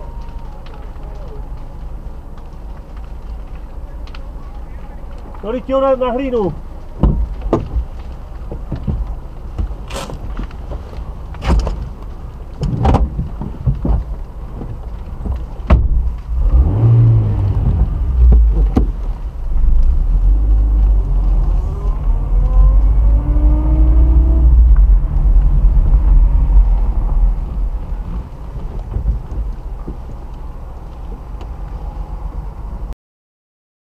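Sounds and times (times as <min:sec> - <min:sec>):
vehicle rumble from inside car: 0:00.0 - 0:33.0.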